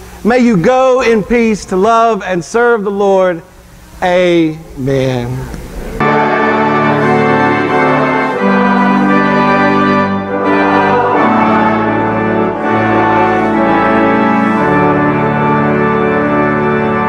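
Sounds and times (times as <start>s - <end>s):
organ playing sustained chords: 0.0s - 17.0s.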